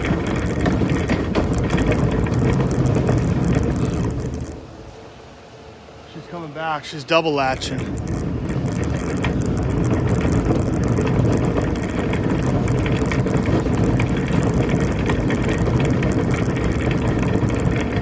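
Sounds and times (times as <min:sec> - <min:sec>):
shopping cart rattling on pavement: 0:00.0 - 0:04.6, 0:07.2 - 0:18.0.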